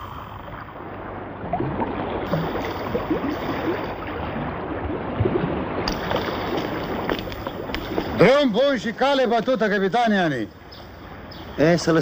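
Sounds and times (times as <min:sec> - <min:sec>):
moving water: 0:00.0 - 0:12.0.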